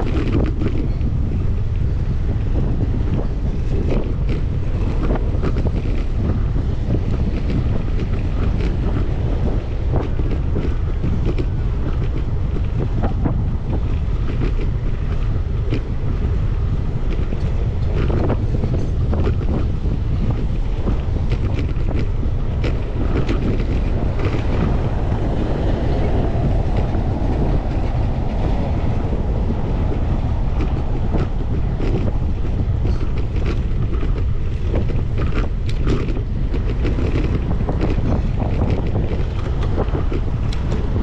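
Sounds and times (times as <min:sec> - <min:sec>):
bicycle clicks and rattles: 0:00.0 - 0:41.0
wind buffeting microphone: 0:00.0 - 0:41.0.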